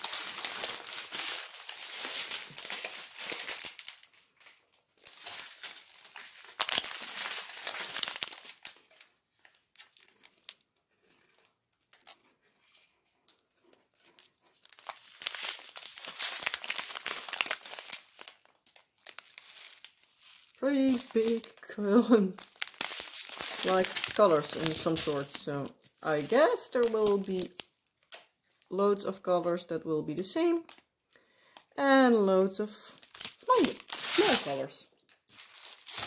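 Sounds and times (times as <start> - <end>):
plastic bags crinkling: 0.0 - 12.2, 13.3 - 28.7, 30.6 - 30.9, 32.8 - 36.0.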